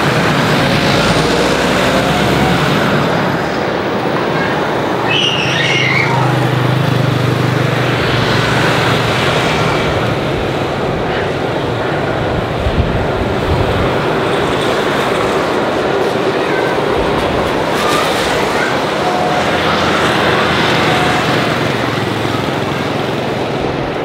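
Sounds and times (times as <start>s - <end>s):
jet airliner roar: 0.0s - 24.0s.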